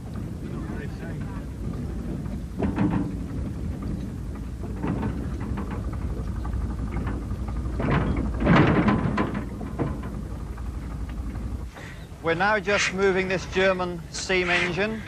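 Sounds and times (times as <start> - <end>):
carriage rumbling on rails: 0.0 - 15.0.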